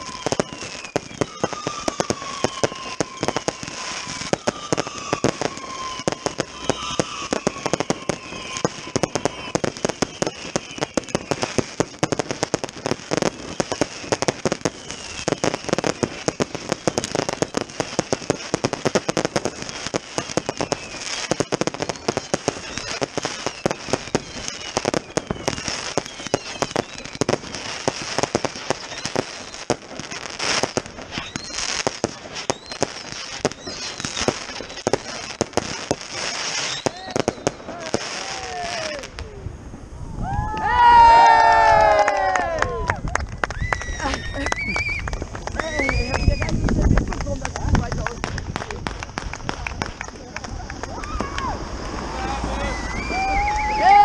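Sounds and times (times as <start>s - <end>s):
firework whistles falling: 0.0s - 54.0s
fireworks banging and crackling: 0.0s - 54.0s.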